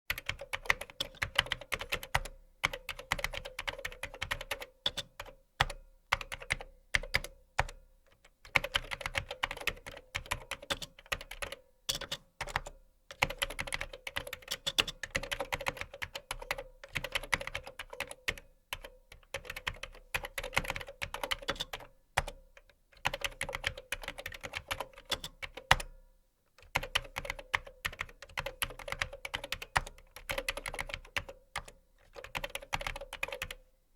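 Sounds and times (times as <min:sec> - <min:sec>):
keyboard typing: 0:00.1 - 0:25.9, 0:26.6 - 0:33.6.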